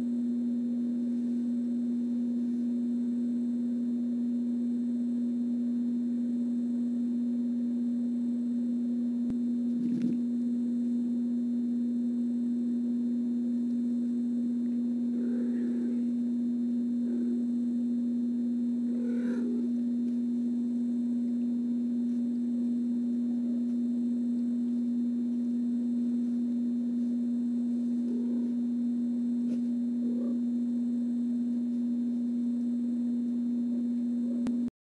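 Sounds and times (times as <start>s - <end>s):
electrical hum: 0.0s - 34.7s.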